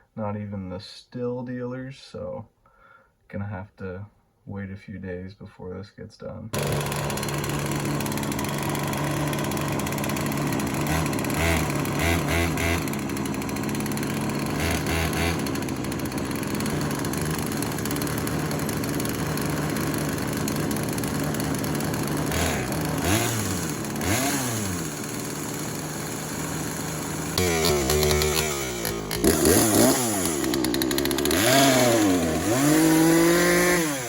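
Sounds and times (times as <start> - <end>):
chainsaw idling and revving: 6.6 - 34.0.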